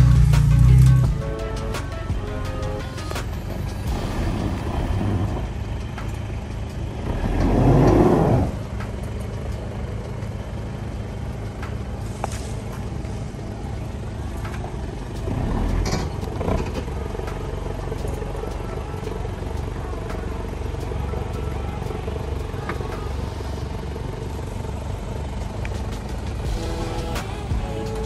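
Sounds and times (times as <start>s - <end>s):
off-road vehicle engine rumble: 0.0s - 28.0s.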